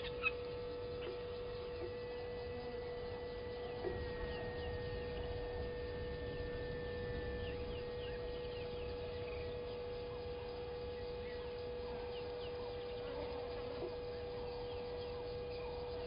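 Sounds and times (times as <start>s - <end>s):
birds chirping: 0.0s - 16.0s
electrical hum: 0.0s - 16.0s.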